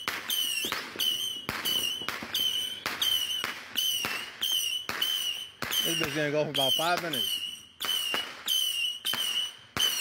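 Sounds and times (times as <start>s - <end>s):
firework rockets popping and whistling: 0.0s - 10.0s.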